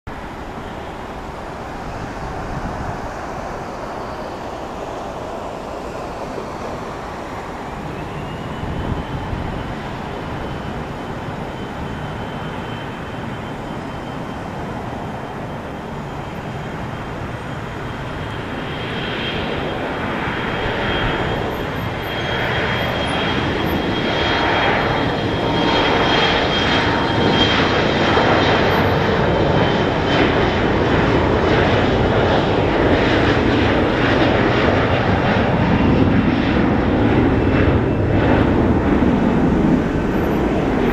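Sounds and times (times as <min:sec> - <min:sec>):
jet engines spooling up: 0:00.2 - 0:40.9.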